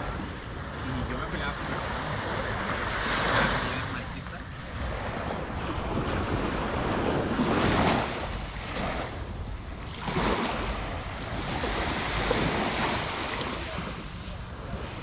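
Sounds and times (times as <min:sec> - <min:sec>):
wind rumble on microphone: 0:00.0 - 0:15.0
small waves breaking on shore: 0:00.7 - 0:15.0.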